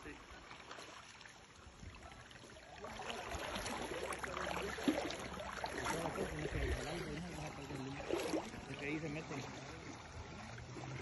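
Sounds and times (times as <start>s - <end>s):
river water rushing and splashing: 0.0s - 11.0s.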